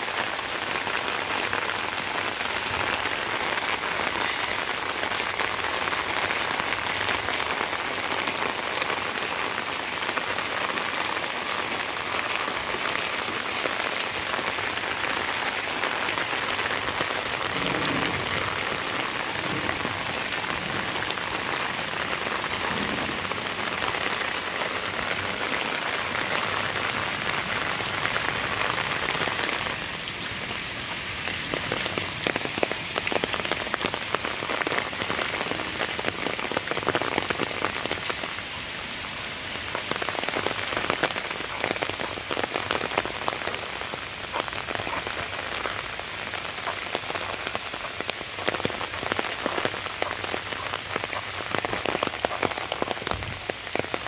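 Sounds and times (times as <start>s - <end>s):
rain falling on grass and trees: 0.0s - 54.0s.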